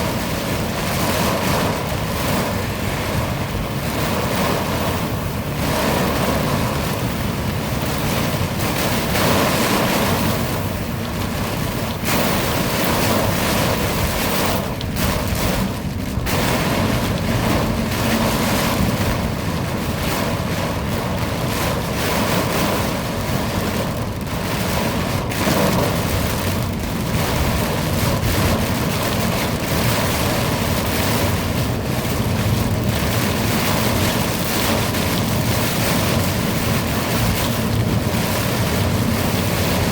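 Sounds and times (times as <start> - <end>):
heavy rain rushing: 0.0 - 39.9
wind gusts on microphone: 0.0 - 39.9.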